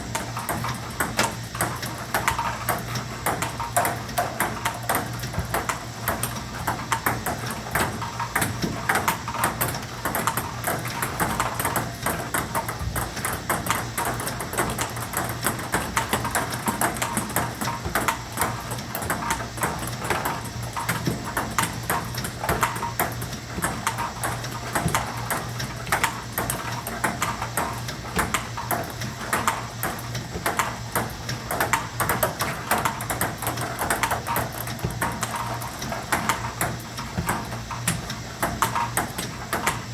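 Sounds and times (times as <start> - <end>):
table tennis ball clicks: 0.4 - 39.8.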